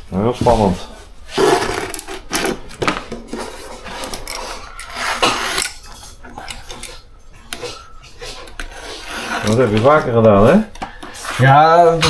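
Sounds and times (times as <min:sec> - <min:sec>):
vinyl flooring rubbing and scraping: 0:00.0 - 0:12.0.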